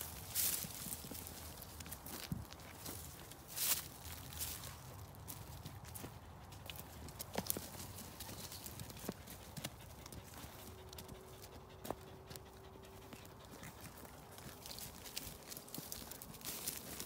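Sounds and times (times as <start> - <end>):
hoof steps shuffling: 0.0 - 17.0.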